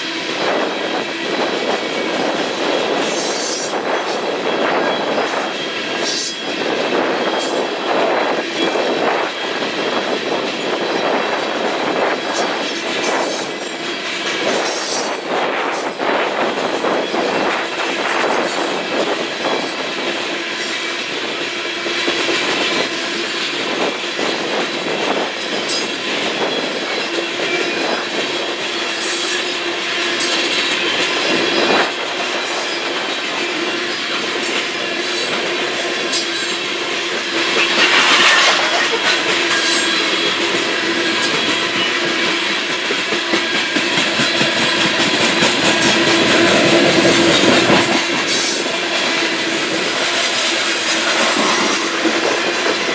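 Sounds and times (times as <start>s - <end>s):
train cars rolling past: 0.0s - 52.9s.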